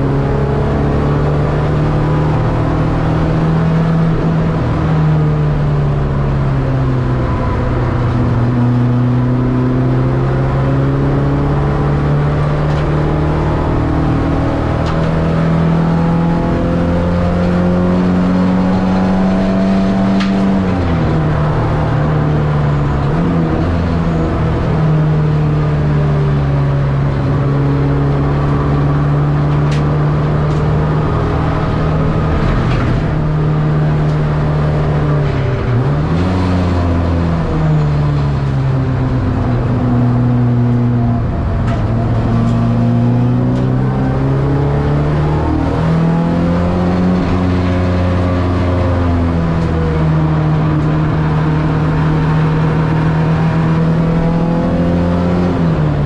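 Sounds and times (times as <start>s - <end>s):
race car engine from inside cabin: 0.0s - 56.0s.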